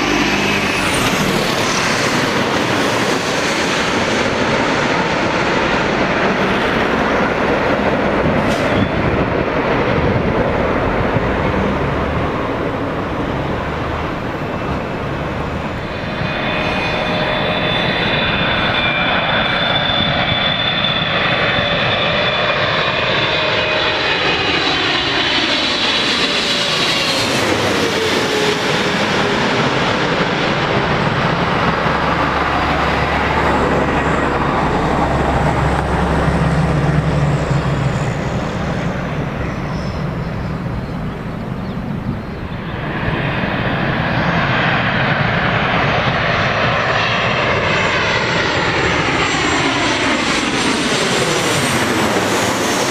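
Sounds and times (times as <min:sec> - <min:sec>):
jet airliner engine roar: 0:00.0 - 0:52.9.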